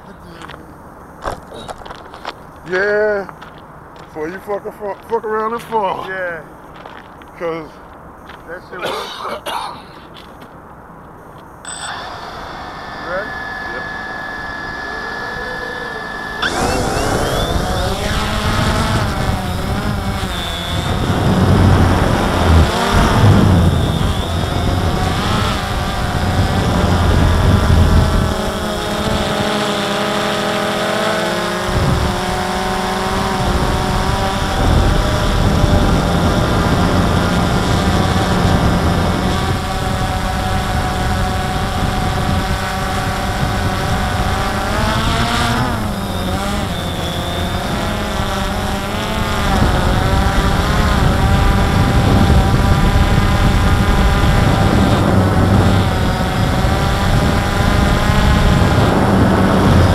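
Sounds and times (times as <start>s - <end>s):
drone motors whirring: 11.6s - 59.9s.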